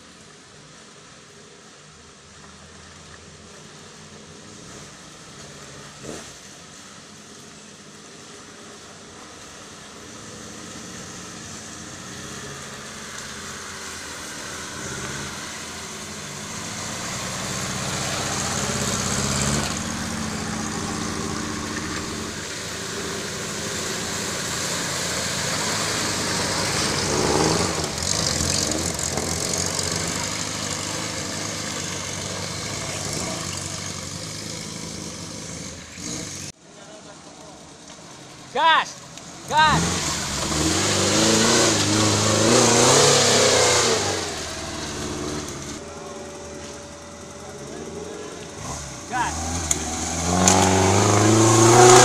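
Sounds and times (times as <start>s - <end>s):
off-road vehicle engine revving: 4.4s - 6.6s, 9.2s - 36.6s, 37.4s - 52.0s.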